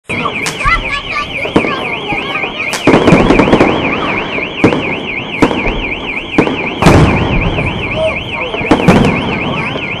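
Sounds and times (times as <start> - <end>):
car alarm warbling: 0.0 - 10.0
firework crackling: 0.1 - 10.0
fireworks bangs: 0.1 - 10.0.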